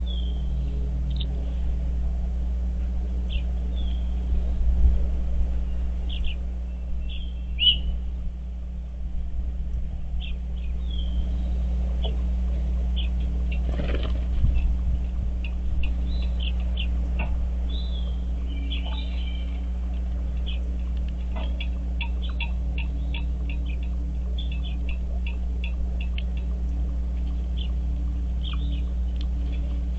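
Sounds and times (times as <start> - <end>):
low rumble and hum: 0.0 - 29.9
songbirds chirping: 0.0 - 29.9.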